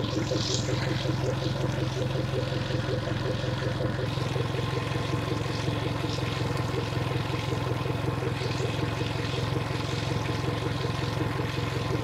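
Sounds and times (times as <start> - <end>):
outboard motor idling: 0.0 - 12.0
water running through motor: 0.0 - 12.0.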